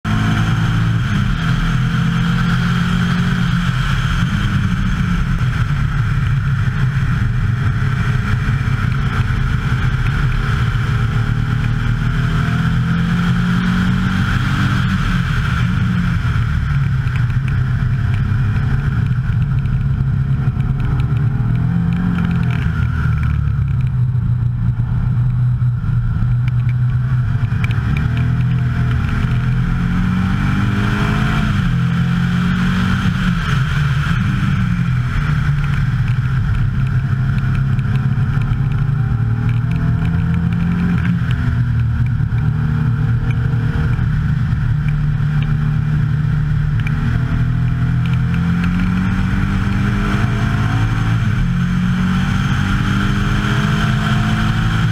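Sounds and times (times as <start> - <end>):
car engine running hard: 0.0 - 54.9.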